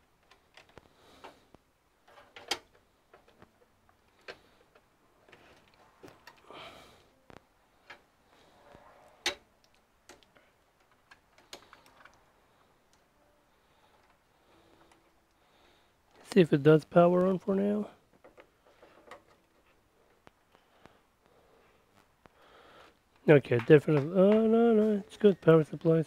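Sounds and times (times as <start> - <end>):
cables rustling: 0.0 - 26.0.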